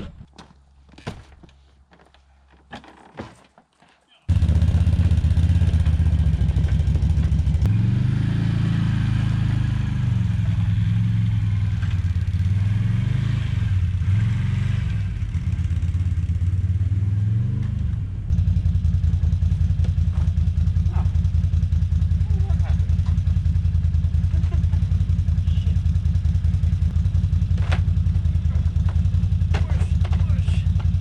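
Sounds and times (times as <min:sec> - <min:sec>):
atv engine revving and idling: 0:04.3 - 0:31.0.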